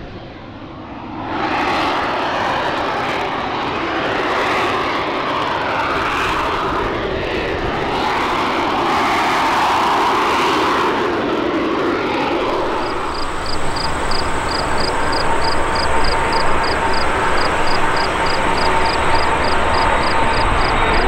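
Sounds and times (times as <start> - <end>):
aircraft rumble and whine: 0.0 - 21.0
jet take-off roar: 0.0 - 21.0.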